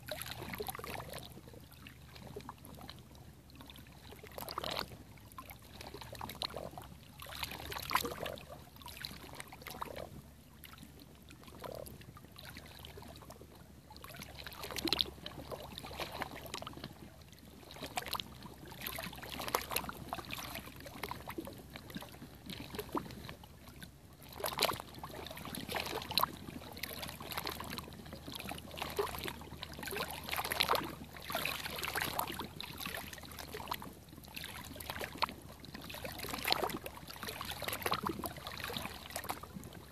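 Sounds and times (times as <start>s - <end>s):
water lapping against rocks: 0.0s - 39.9s.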